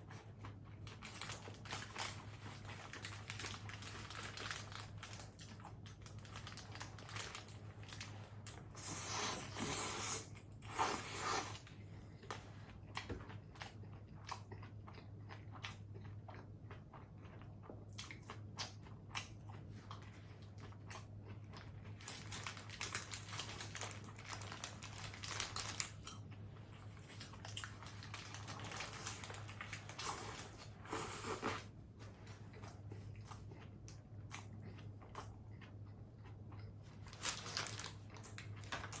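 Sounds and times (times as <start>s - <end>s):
crunching and chewing food: 0.0s - 39.0s
steady low hum: 0.0s - 39.0s.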